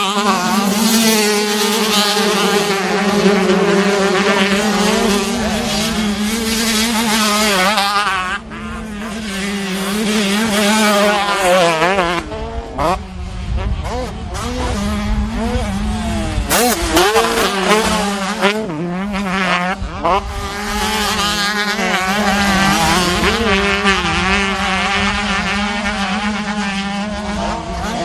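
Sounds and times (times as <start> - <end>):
dirt bike engines revving: 0.0 - 28.0
steady engine drone: 0.0 - 28.0.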